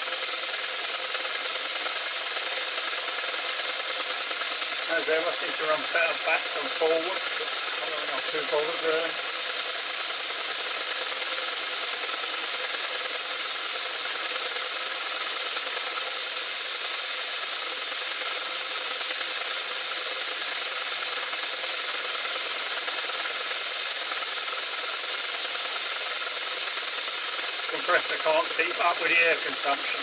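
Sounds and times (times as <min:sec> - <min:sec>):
air hissing through cylinders: 0:00.0 - 0:30.0
faint rubbing rattle of motion: 0:00.0 - 0:30.0.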